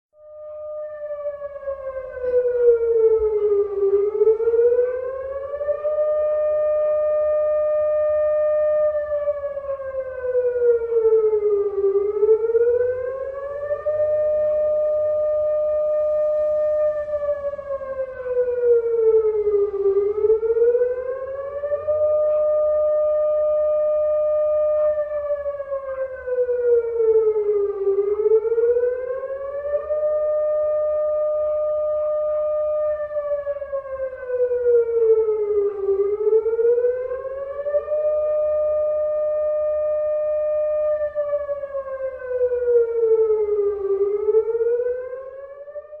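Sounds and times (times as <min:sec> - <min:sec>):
police siren wailing: 0:00.1 - 0:46.0.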